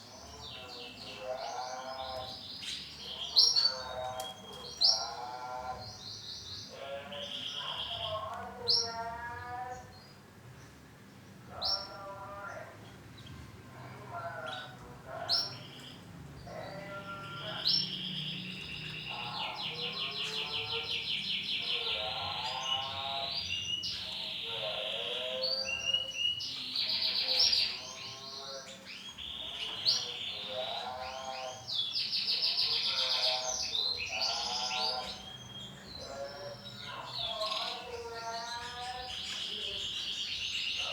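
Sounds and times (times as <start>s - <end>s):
canary singing: 0.0s - 10.3s, 11.4s - 40.9s.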